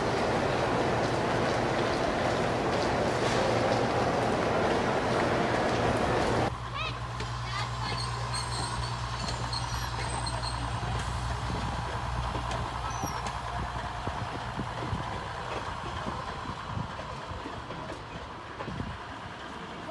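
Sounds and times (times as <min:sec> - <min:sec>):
train wheel and body rattle: 0:00.0 - 0:19.9.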